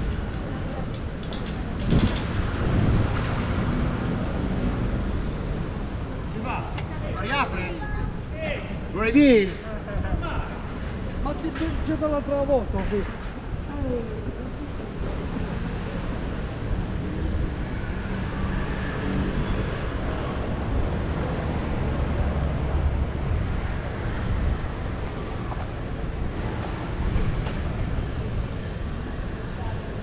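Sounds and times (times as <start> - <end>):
city street rumble: 0.0 - 30.0.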